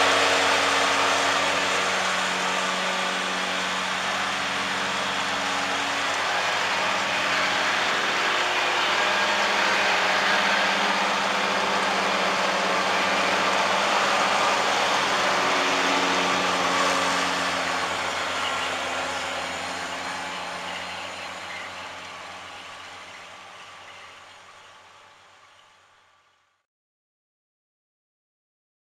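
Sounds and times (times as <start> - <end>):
whirr of cutting rotors: 0.0 - 26.4
tractor diesel engine drone: 0.0 - 26.6.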